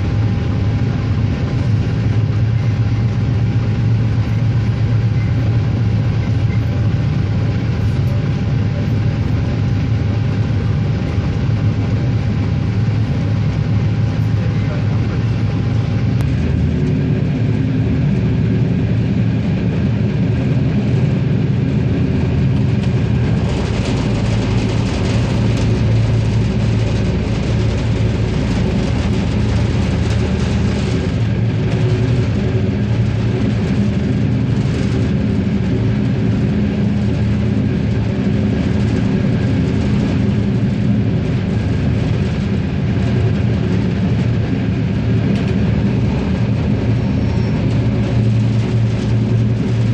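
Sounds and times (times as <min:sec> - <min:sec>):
train engine drone: 0:00.0 - 0:49.9.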